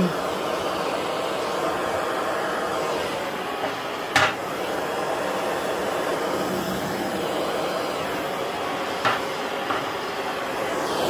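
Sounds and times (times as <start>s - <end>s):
propane torch flame hissing: 0.0s - 11.0s.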